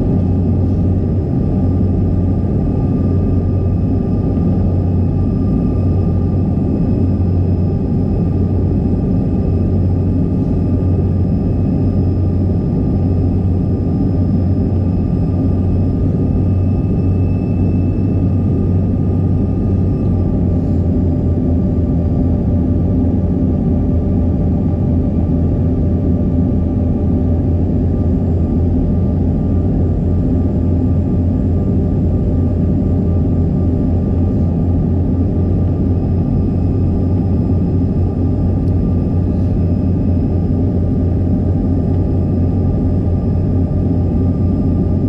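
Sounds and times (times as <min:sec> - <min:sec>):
faint steady whine: 0:00.0 - 0:45.0
jet cabin rumble: 0:00.0 - 0:45.0.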